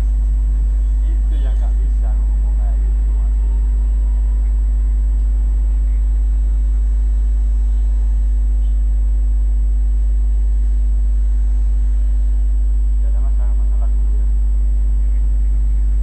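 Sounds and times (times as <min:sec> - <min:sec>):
faint steady tones: 0:00.0 - 0:16.0
low hum: 0:00.0 - 0:16.0.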